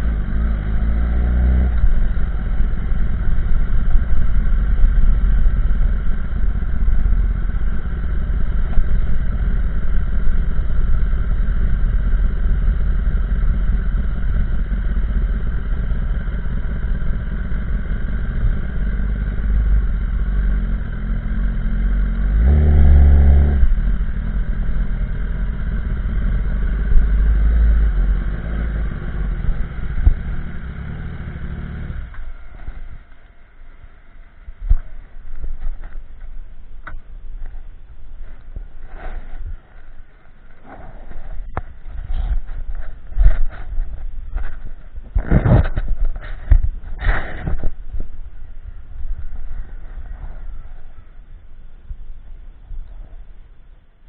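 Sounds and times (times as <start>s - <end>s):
motorcycle engine cruising: 0.0s - 53.4s.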